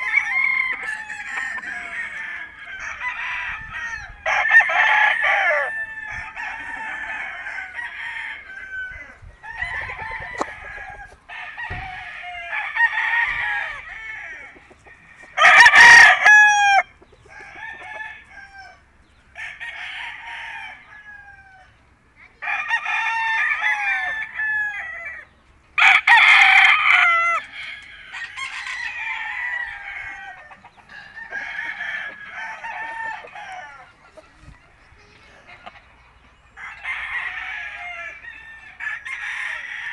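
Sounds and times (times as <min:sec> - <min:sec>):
roosters crowing: 0:00.0 - 0:34.7, 0:35.3 - 0:39.9.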